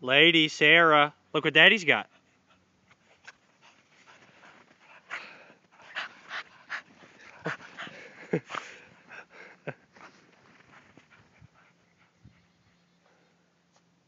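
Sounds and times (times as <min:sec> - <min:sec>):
small dogs panting: 0:02.0 - 0:13.4.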